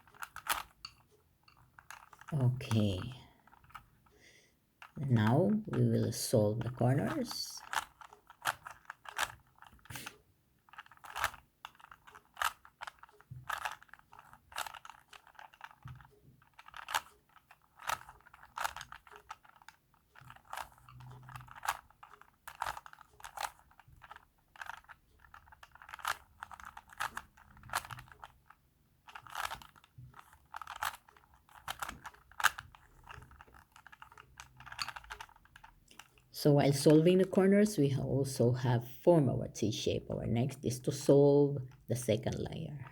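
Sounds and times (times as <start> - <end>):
puzzle cube plastic clicking: 0.0 - 37.9, 40.5 - 42.9.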